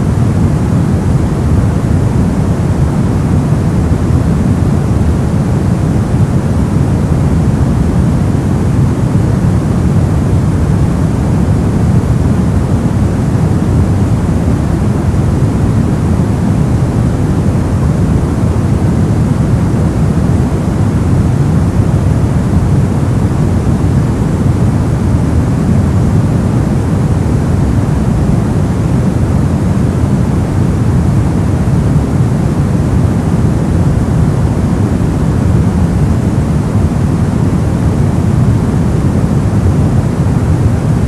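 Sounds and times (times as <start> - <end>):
brown noise rumbling hiss: 0.0 - 41.0.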